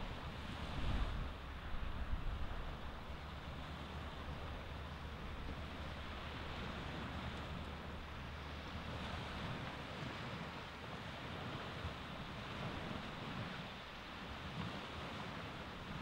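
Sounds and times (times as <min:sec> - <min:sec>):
small waves washing onto beach: 0:00.0 - 0:16.0.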